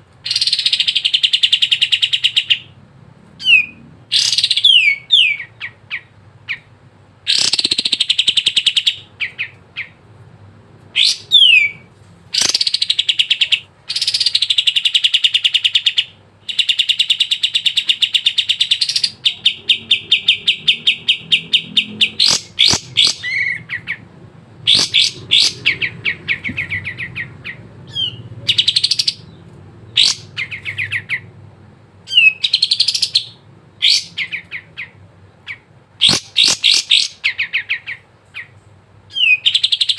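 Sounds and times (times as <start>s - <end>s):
bird singing trills and whistles: 0.3s - 2.8s, 3.4s - 6.7s, 7.3s - 10.0s, 11.0s - 24.0s, 24.7s - 31.3s, 32.1s - 38.5s, 39.1s - 39.9s.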